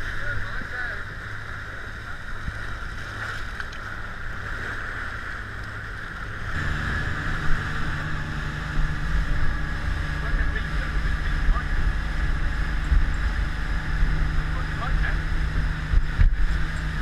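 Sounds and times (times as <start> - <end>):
speedboat engine drone: 0.0 - 17.0
water rushing along hull: 0.0 - 17.0.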